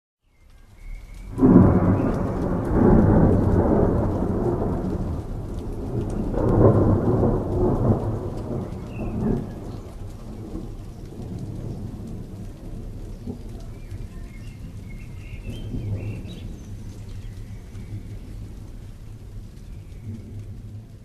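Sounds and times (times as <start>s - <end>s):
steady rain: 0.2s - 21.0s
thunder rumbling: 1.2s - 21.0s.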